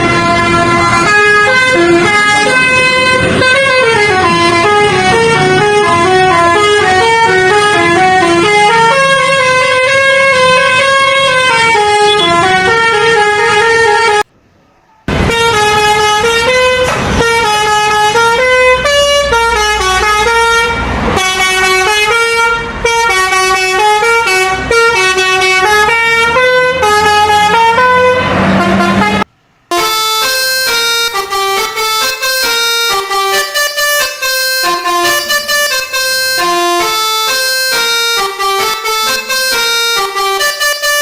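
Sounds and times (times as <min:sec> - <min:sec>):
musical bus horn tune: 0:00.0 - 0:14.3, 0:15.1 - 0:41.0.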